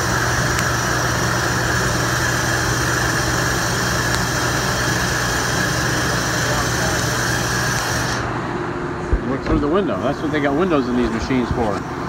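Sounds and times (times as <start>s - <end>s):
lathe machine hum and hiss: 0.0s - 12.0s.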